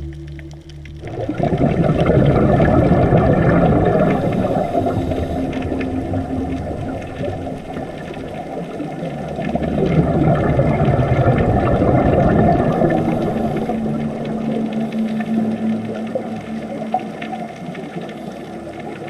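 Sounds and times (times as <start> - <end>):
steady low hum: 0.0 - 19.0
underwater low rushing: 0.0 - 19.0.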